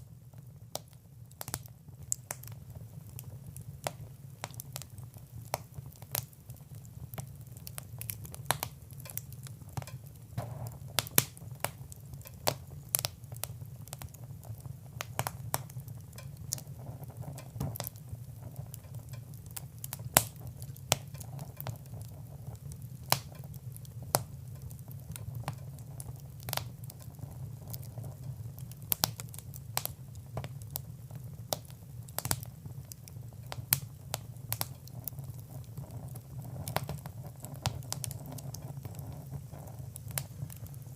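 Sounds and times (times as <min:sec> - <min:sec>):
wood fire crackling: 0:00.0 - 0:40.9
flames rumbling: 0:00.2 - 0:40.9.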